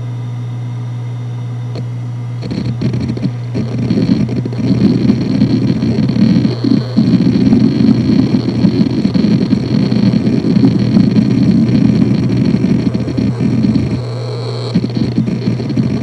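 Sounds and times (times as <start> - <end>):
hard drive spinning hum: 0.0 - 16.0
hard drive seek chatter: 1.7 - 16.0.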